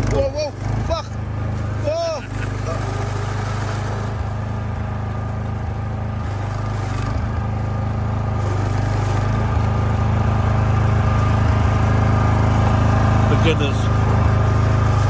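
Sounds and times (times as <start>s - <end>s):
ride-on lawn mower engine: 0.0s - 15.0s.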